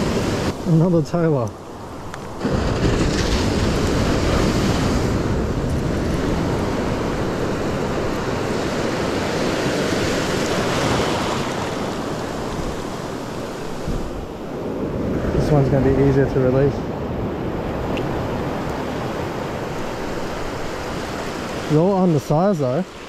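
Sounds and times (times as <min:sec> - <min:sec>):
wind buffeting microphone: 0:00.0 - 0:21.7
shallow surf washing: 0:00.0 - 0:23.0.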